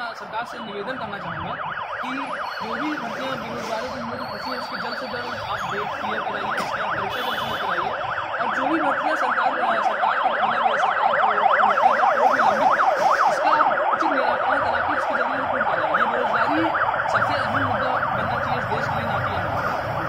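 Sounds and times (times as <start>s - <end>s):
siren yelping: 0.0s - 20.0s.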